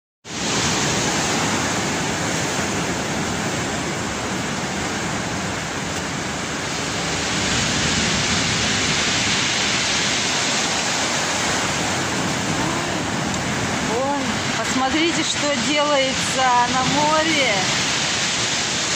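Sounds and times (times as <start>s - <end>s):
heavy breaking waves rushing: 0.2s - 18.9s.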